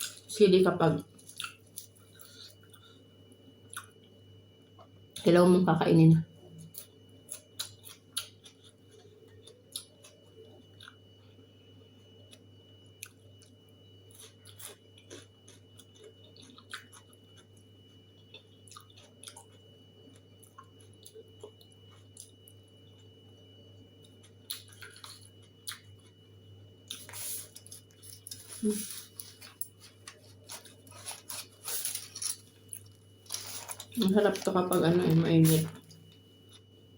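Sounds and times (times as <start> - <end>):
person chewing food: 1.1 - 4.1, 6.6 - 11.4, 12.2 - 34.8.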